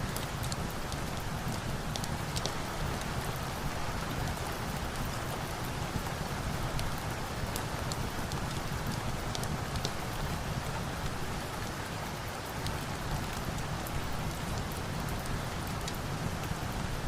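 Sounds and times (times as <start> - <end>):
wood fire crackling: 0.0 - 11.7, 12.5 - 17.0
steady rain: 0.0 - 17.0.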